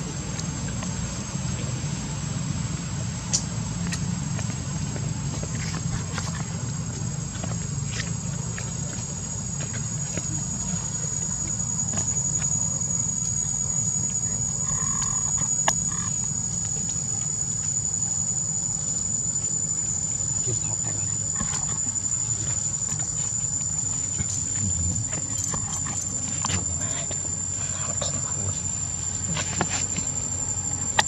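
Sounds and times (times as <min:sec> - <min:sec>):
insects droning: 0:00.0 - 0:31.0
low steady rumble: 0:00.0 - 0:31.0.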